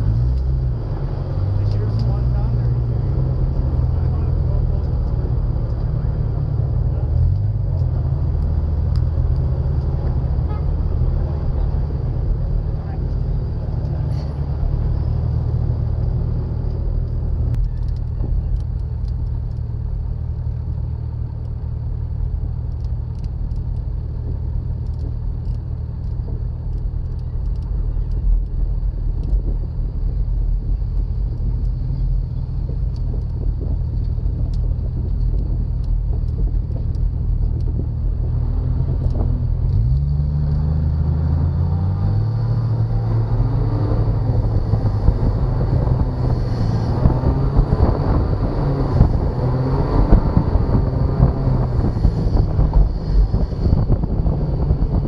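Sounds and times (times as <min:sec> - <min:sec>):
engine rumbling under load: 0:00.0 - 0:55.0.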